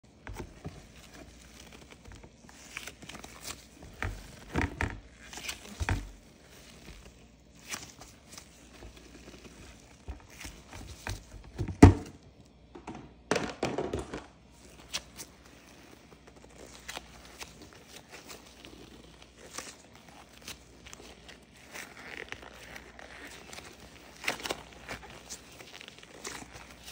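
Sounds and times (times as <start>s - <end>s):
slime crackling and squishing: 0.1s - 11.6s, 14.4s - 26.9s.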